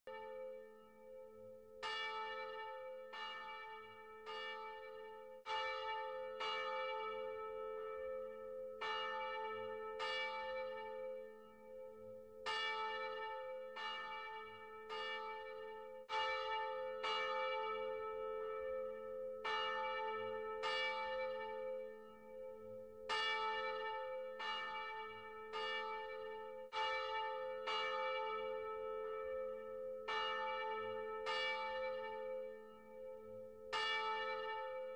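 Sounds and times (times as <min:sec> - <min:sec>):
church bell tolling: 0:00.1 - 0:34.9.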